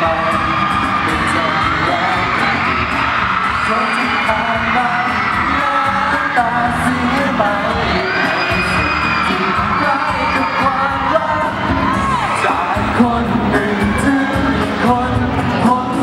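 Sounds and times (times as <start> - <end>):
man singing into microphone: 0.0 - 2.8, 3.5 - 16.0
backing music: 0.0 - 16.0.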